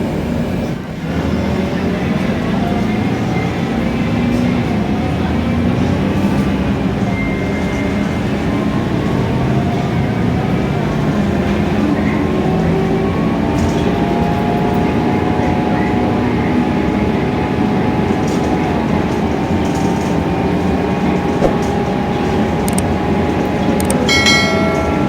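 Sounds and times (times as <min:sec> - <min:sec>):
bus engine and cabin noise: 0:00.0 - 0:25.0.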